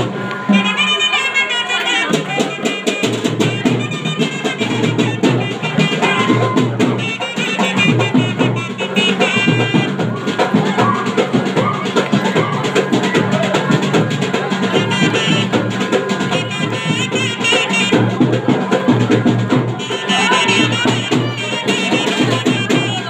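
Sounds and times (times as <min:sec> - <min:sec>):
fast dense drumming: 0:02.1 - 0:23.0.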